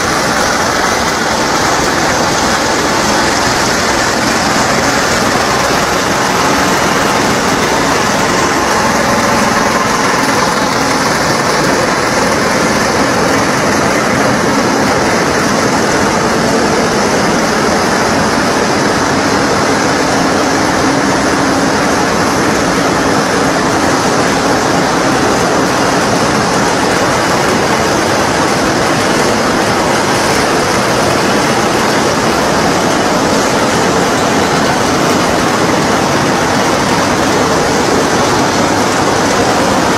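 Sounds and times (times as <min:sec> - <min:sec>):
loud industrial machinery running: 0:00.0 - 0:39.9.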